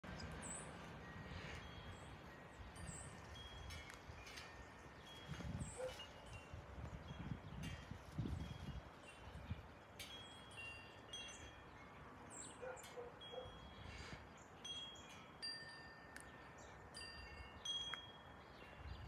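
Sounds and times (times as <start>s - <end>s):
wind chimes ringing: 0.1s - 19.0s.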